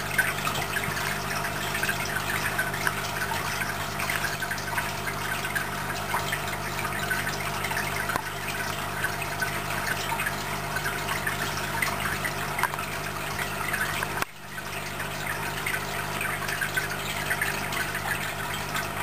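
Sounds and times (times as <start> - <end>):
aquarium water trickling and bubbling: 0.0 - 19.0
constant low hum: 0.0 - 19.0.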